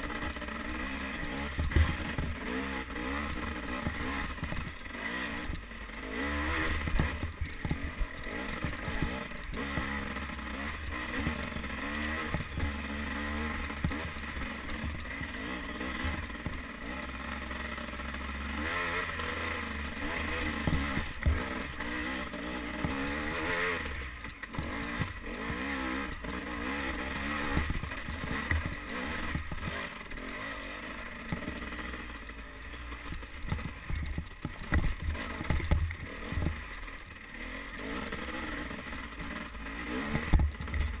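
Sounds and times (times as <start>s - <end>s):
dirt bike engine revving: 0.0s - 41.0s
bike knocking and clattering: 1.4s - 18.7s, 19.7s - 29.9s, 31.2s - 37.5s, 40.0s - 41.0s.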